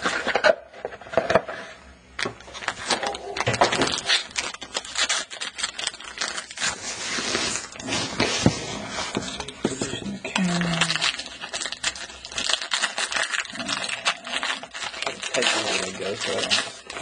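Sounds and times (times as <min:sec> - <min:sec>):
card pack wrapper rustling: 0:02.4 - 0:08.3, 0:09.1 - 0:17.0.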